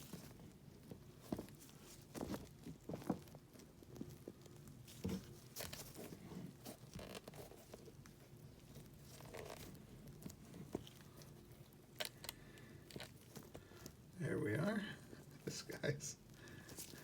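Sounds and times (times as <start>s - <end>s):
soft rustling: 0.0s - 17.0s.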